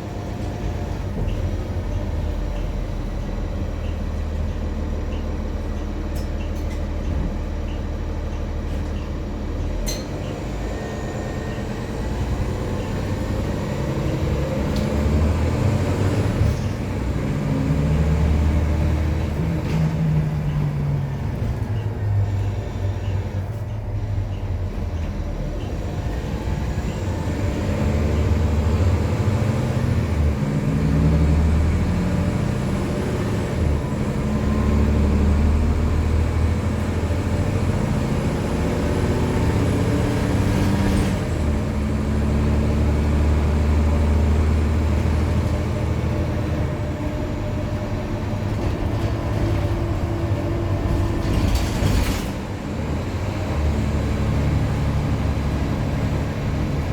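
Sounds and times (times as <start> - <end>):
bus diesel engine: 0.0 - 56.9.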